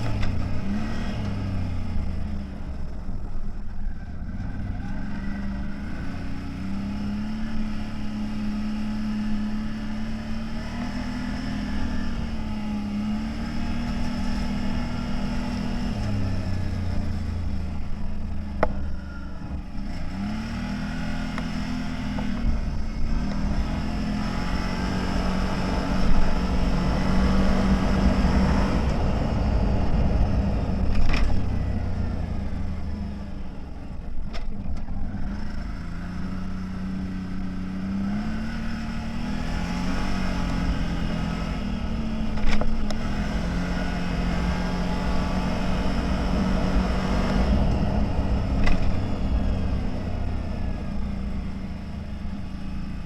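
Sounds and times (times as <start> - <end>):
off-road vehicle engine revving: 0.0 - 53.0
wind and tyre noise: 0.0 - 53.0.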